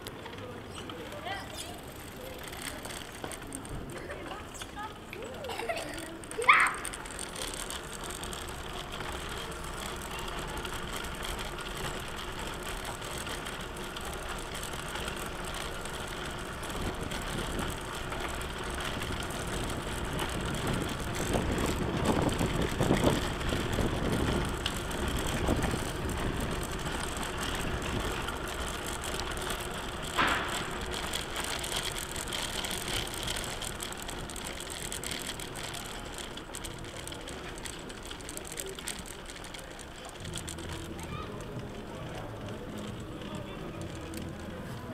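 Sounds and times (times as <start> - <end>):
trike rattling over cobblestones: 0.0 - 44.9.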